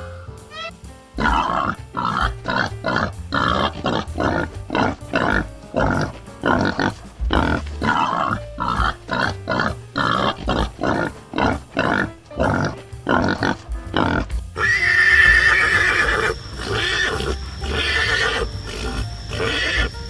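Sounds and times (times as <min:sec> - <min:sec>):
background music: 0:00.0 - 0:20.0
animal grunting: 0:01.2 - 0:19.9.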